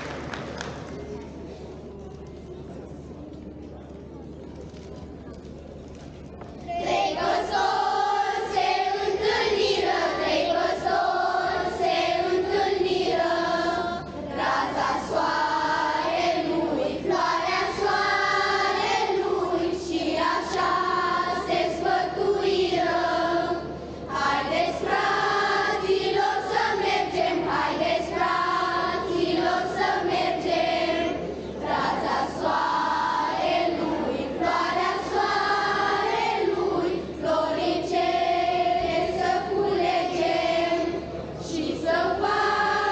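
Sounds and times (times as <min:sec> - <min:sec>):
children's choir singing a carol: 0:06.6 - 0:42.9.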